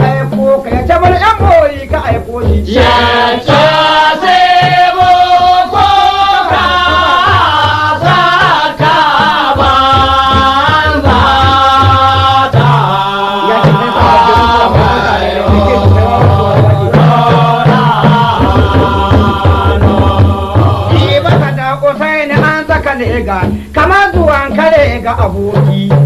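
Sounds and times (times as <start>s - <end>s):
low steady percussion: 0.0s - 26.0s.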